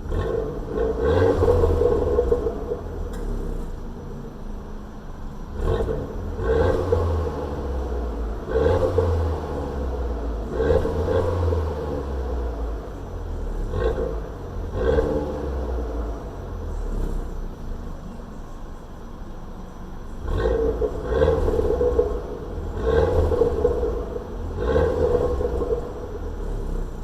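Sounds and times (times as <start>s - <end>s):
car engine throttle blips: 0.0s - 27.0s
engine low drone: 0.0s - 27.0s.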